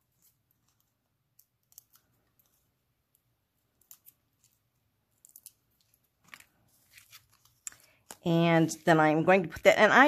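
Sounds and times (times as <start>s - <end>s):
faint clicks and crinkles of peeling: 0.2s - 8.3s.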